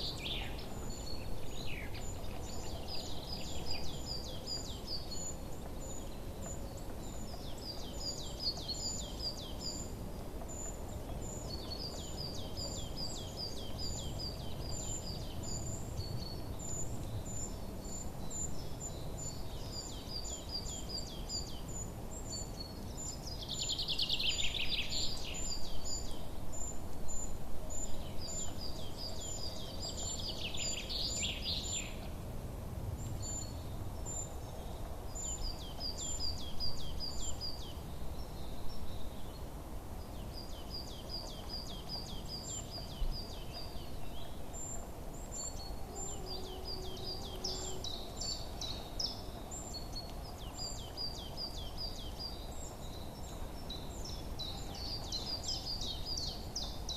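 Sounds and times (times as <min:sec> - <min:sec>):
songbirds singing: 0:00.0 - 0:56.9.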